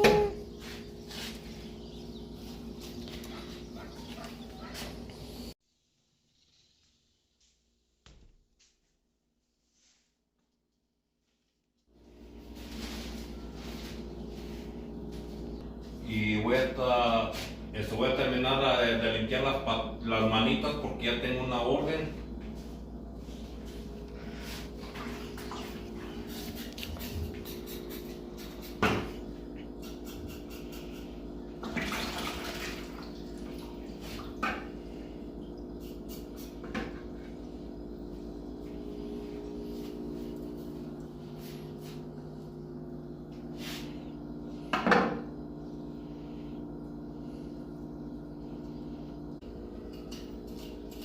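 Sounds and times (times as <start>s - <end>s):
low machine hum: 0.0s - 5.6s, 11.9s - 51.0s.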